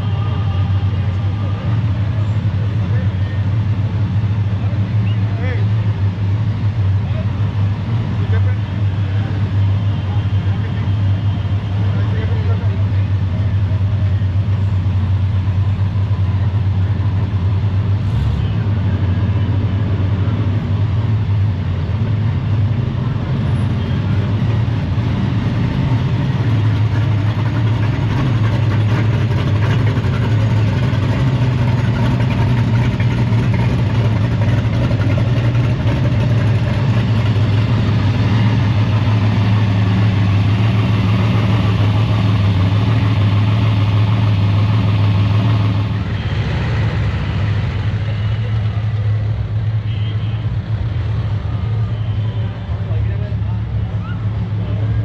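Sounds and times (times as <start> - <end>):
pickup truck engines rumbling: 0.0 - 55.0.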